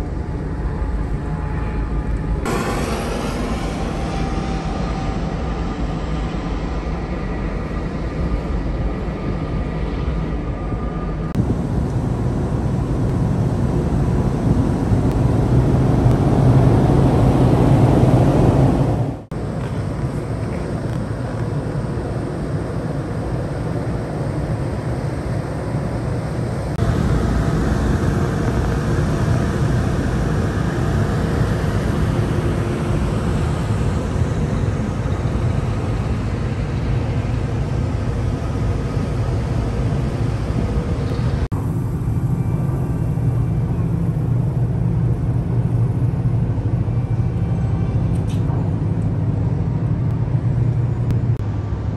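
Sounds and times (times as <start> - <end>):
ship machinery rumble: 0.0 - 51.9
wind on deck: 0.0 - 51.9.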